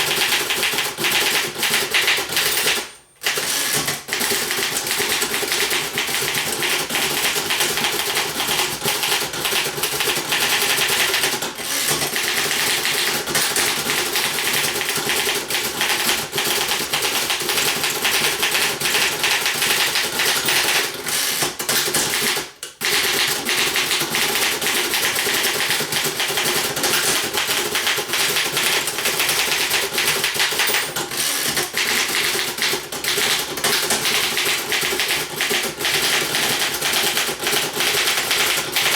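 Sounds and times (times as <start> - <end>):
typewriter keys clattering: 0.0 - 38.9.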